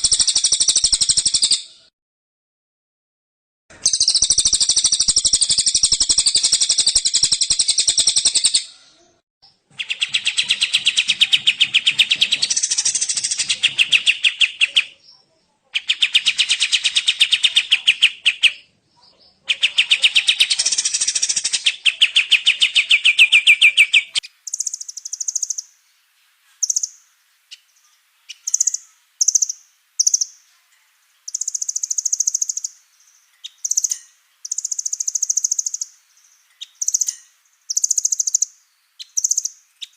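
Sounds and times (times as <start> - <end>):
high bird chirps: 0.0 - 1.9, 3.7 - 8.8, 9.4 - 15.2, 15.8 - 25.9, 26.5 - 39.9.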